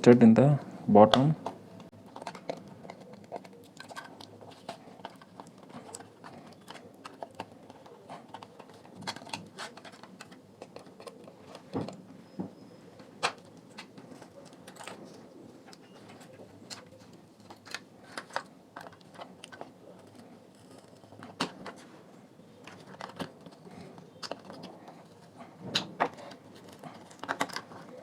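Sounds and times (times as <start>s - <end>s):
small clicks taps and scrapes: 1.4s - 21.9s, 22.6s - 28.0s.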